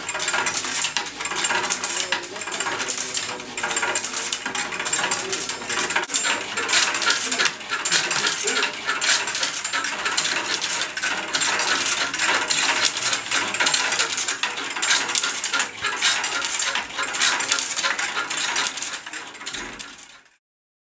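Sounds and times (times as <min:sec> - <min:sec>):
clatter of clicks and rattles: 0:00.0 - 0:20.4.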